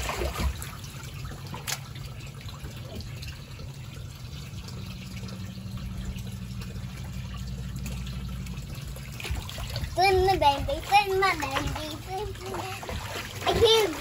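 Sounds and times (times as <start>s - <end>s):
small drips and splashes: 0.0s - 14.0s
water lapping and trickling: 0.0s - 14.0s.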